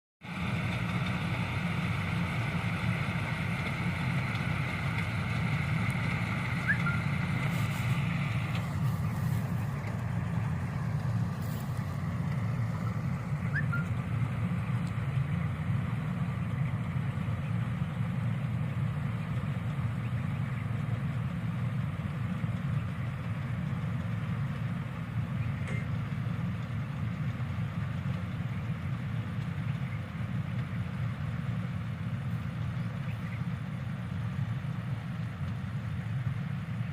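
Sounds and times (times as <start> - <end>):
combine harvester engine drone: 0.2 - 36.9
hissing machinery noise: 0.2 - 36.9.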